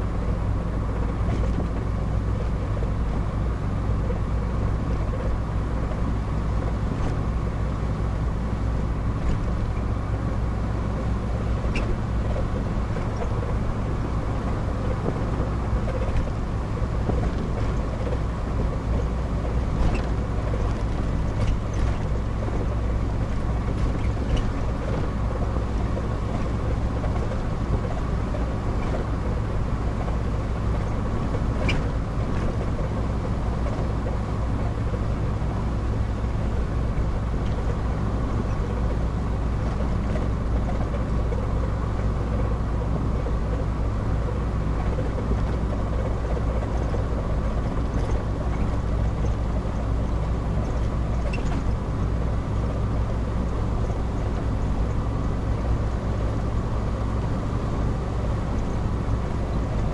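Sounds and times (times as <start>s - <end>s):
car engine and tyre road noise: 0.0s - 59.9s.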